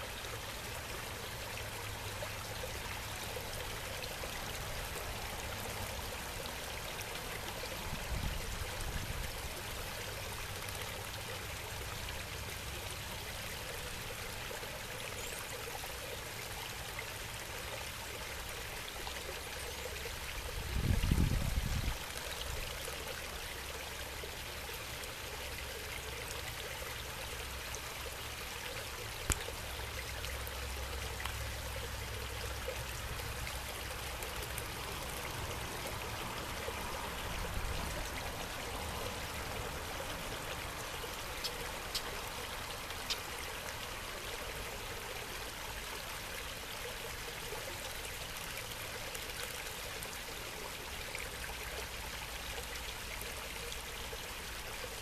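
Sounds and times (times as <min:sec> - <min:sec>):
water trickling in a pond: 0:00.0 - 0:55.0.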